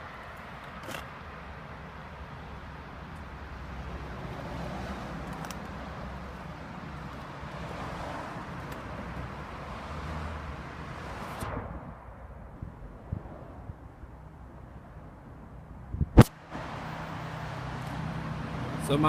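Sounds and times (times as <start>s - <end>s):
vehicle noise: 0.0s - 19.0s.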